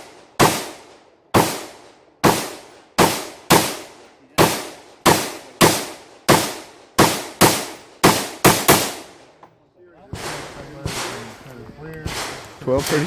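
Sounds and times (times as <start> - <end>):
rifle shots: 0.0 - 9.4, 10.1 - 11.4, 12.0 - 13.0.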